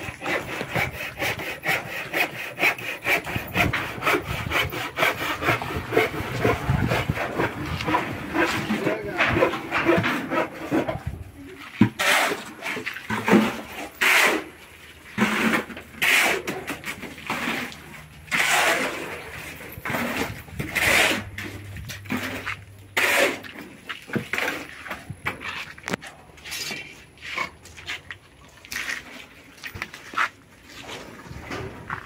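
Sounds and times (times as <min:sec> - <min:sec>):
shovels scraping wet concrete: 0:00.0 - 0:32.0.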